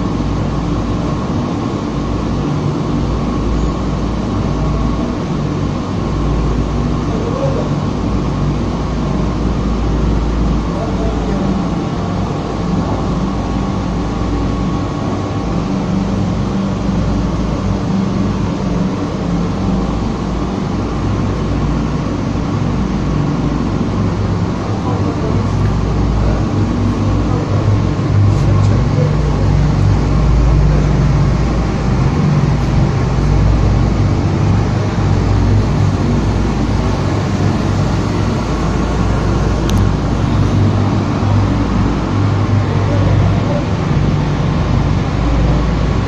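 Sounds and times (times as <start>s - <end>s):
deep low hum: 0.0s - 46.0s
machinery motor drone: 0.0s - 46.0s.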